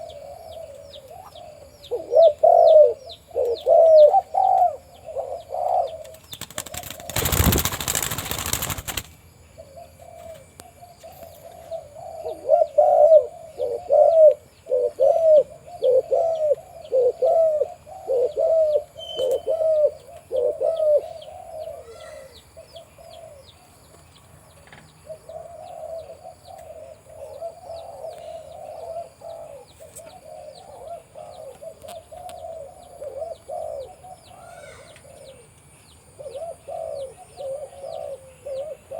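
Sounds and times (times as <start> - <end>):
dove cooing: 0.0 - 9.0, 9.6 - 23.7, 25.0 - 35.5, 36.1 - 38.9.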